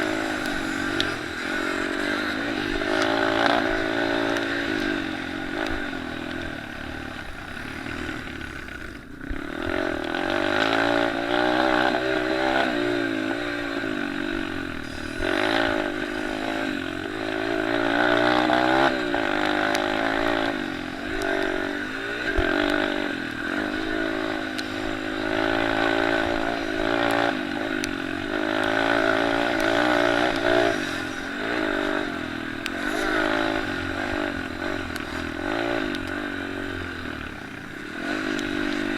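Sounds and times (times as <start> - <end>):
small motorcycle engines revving: 0.0 - 38.9.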